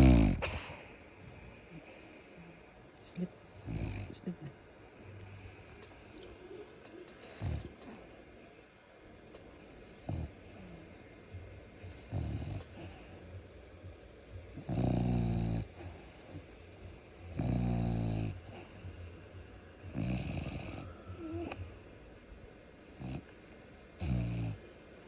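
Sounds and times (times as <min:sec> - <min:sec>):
dog snoring: 0:00.0 - 0:08.3, 0:09.0 - 0:23.3, 0:23.9 - 0:25.0.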